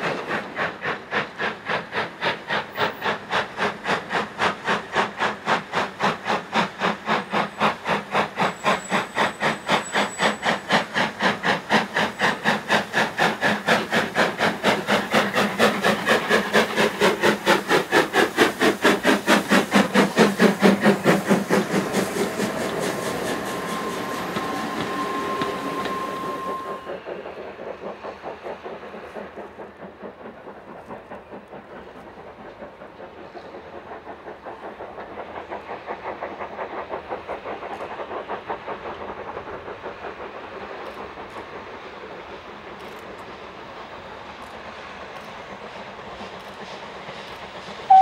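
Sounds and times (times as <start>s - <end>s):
steam locomotive chuffing: 0.0s - 48.0s.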